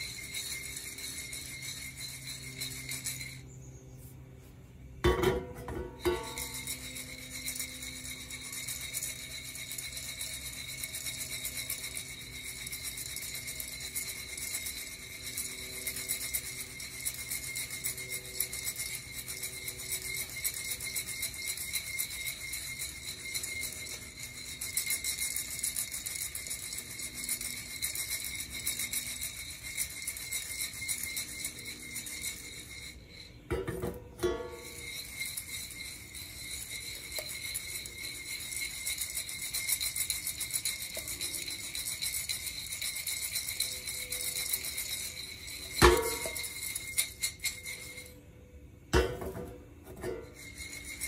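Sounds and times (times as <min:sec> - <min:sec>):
coffee beans rattling in roaster: 0:00.0 - 0:03.9, 0:04.7 - 0:51.0.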